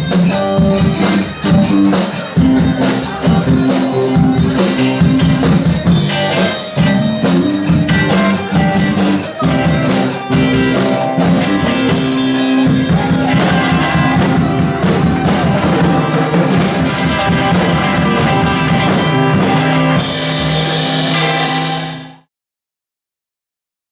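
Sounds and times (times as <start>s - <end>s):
rock band playing: 0.0s - 22.3s.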